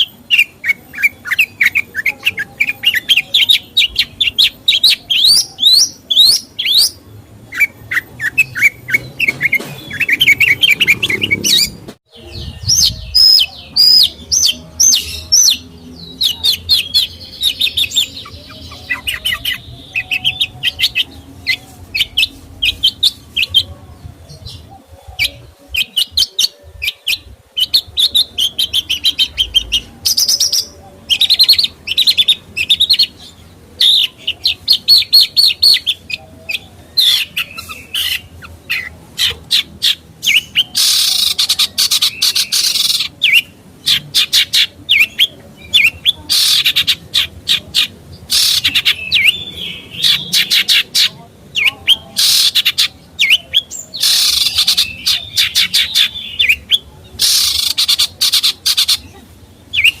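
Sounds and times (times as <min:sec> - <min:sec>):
songbird chattering song: 0:00.0 - 1:00.0.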